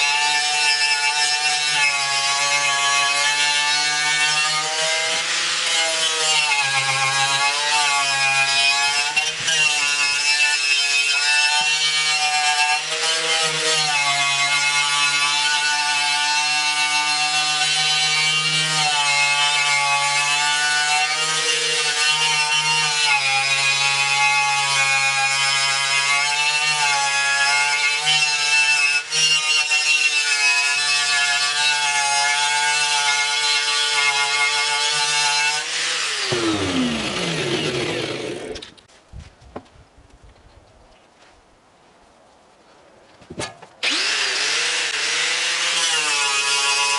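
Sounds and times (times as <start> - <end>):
angle grinder with wire brush: 0.0 - 38.8, 43.8 - 46.9.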